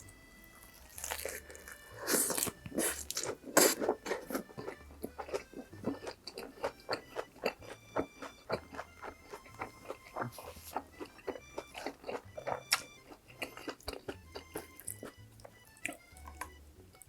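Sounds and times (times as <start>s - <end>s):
bites and crunches: 0.0s - 16.6s
wet chewing: 0.0s - 17.0s.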